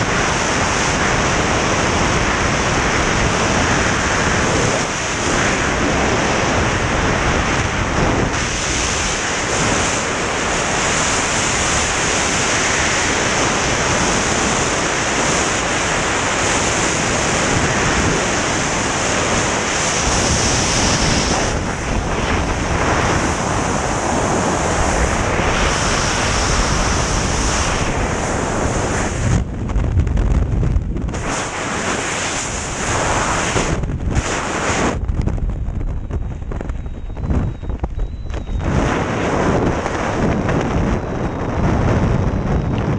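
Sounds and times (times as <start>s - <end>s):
freefall wind buffeting microphone: 0.0s - 42.9s.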